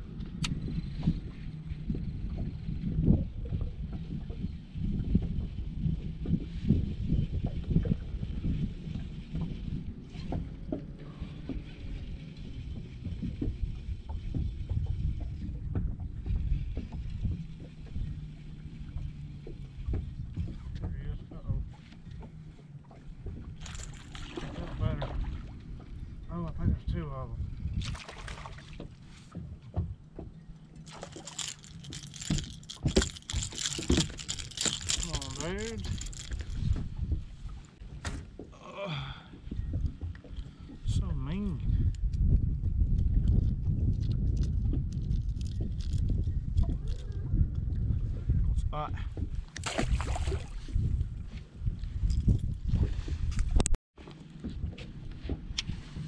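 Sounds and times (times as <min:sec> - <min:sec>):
waves slapping boat hull: 0:00.8 - 0:26.7, 0:27.3 - 0:43.8, 0:47.4 - 0:56.0.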